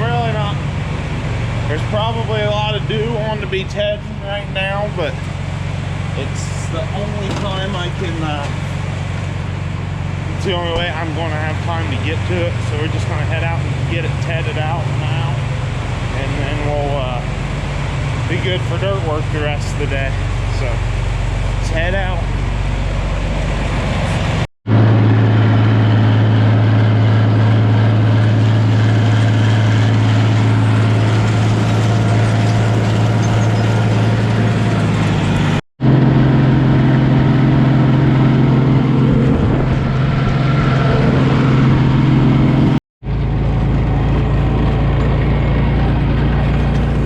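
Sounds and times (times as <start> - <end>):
vehicle engine low drone: 0.0 - 47.0.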